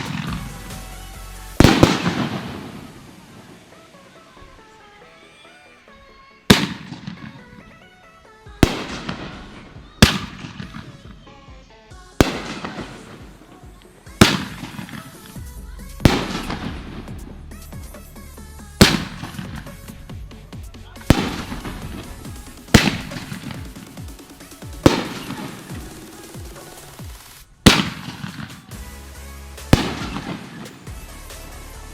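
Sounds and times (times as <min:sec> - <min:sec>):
fireworks booming and crackling: 0:00.0 - 0:04.4, 0:06.5 - 0:07.8, 0:08.6 - 0:11.4, 0:12.2 - 0:18.0, 0:18.7 - 0:31.4
background music: 0:00.0 - 0:31.9.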